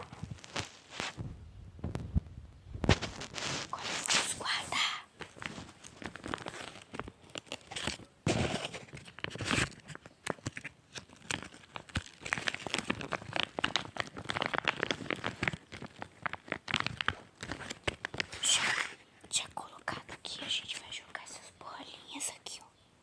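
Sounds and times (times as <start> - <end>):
squishy toys crackling and crinkling: 0.0 - 1.2, 2.8 - 22.7.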